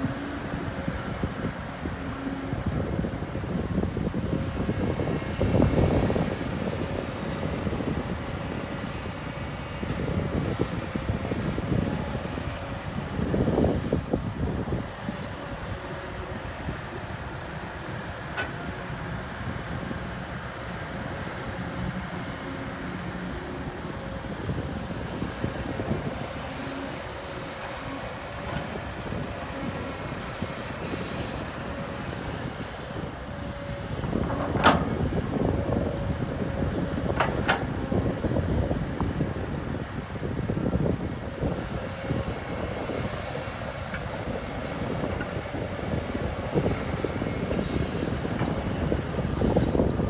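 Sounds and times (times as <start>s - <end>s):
diesel machinery running: 0.0s - 50.0s.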